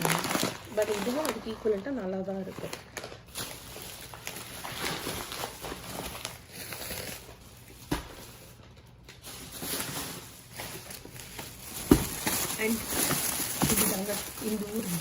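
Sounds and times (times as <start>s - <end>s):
grocery packages rustling: 0.0s - 15.0s.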